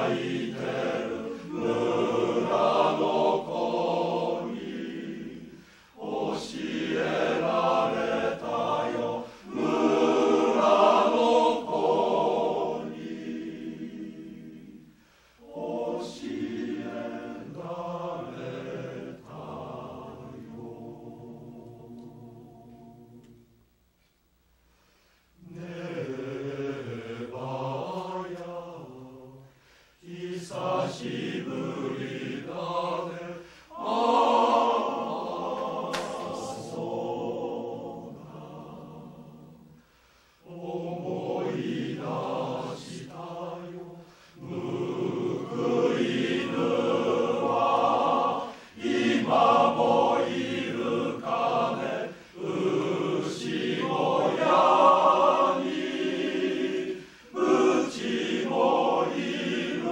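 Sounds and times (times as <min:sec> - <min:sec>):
men's chorus singing in harmony: 0:00.0 - 0:23.5, 0:25.4 - 0:39.8, 0:40.4 - 0:59.9.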